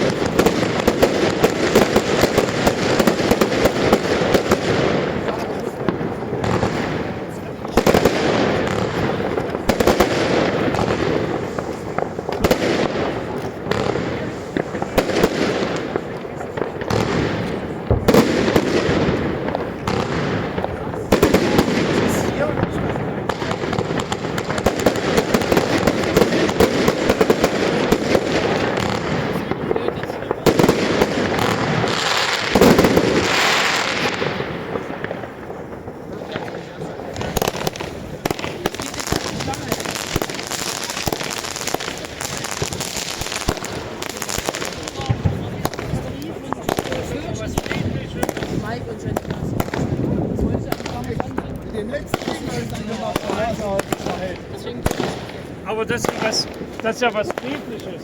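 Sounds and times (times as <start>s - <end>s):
sharp nearby firecracker bangs: 0.0s - 51.5s, 52.1s - 57.7s
fireworks crackling and rumbling: 0.0s - 58.0s.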